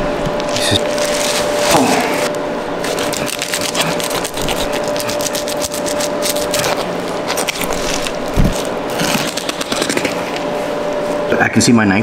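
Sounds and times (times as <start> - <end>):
knife scraping through fish: 0.6 - 10.5.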